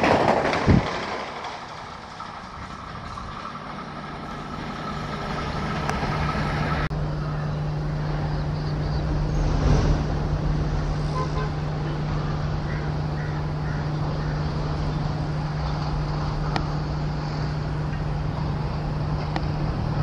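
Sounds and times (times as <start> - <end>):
electric locomotive humming: 0.0 - 20.0
train rumble: 0.0 - 20.0.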